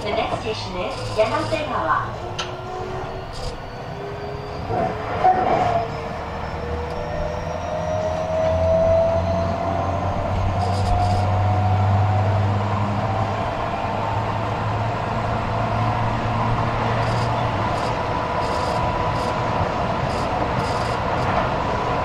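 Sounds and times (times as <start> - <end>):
electric train motors whining: 0.0 - 11.6, 13.0 - 22.0.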